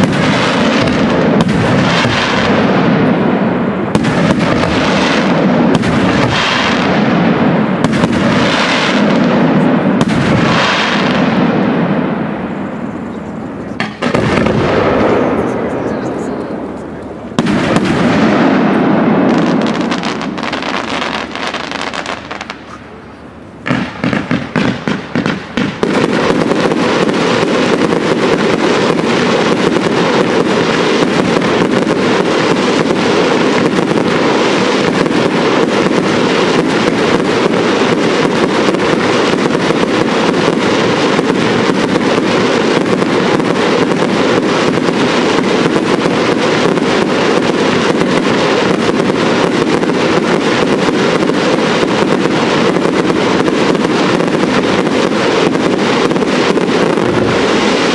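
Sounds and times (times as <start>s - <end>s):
fireworks bangs: 0.0s - 57.9s
fireworks barrage: 0.0s - 57.9s.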